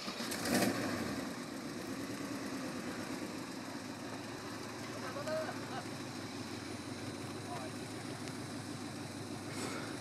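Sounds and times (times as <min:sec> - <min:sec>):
distant engine running at low revs: 0:00.0 - 0:10.0.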